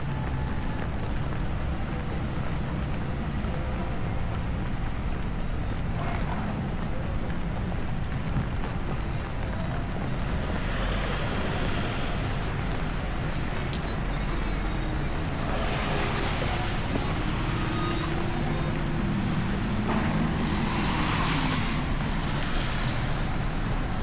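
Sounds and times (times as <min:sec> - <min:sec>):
low engine hum: 0:00.0 - 0:24.0
steady rain: 0:00.0 - 0:24.0
vehicles passing on wet road: 0:00.0 - 0:24.0
tyre spray hiss: 0:02.6 - 0:24.0.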